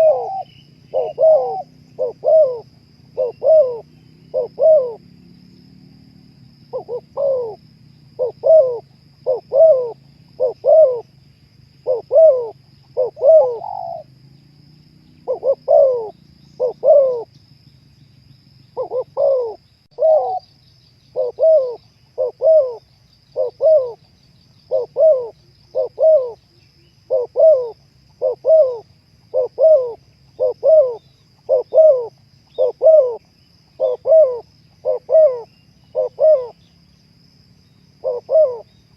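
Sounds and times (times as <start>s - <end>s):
dove cooing: 0.0s - 5.1s, 6.7s - 11.1s, 11.8s - 14.2s, 15.2s - 17.3s, 18.8s - 20.5s, 21.1s - 26.4s, 27.0s - 36.8s, 38.0s - 38.8s.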